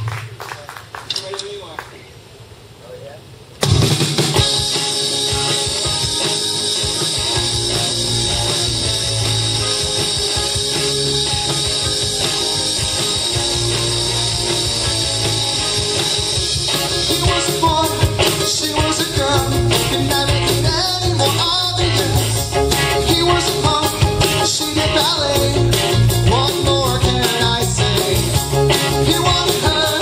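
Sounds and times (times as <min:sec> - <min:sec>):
live rock band playing: 0:03.6 - 0:30.0.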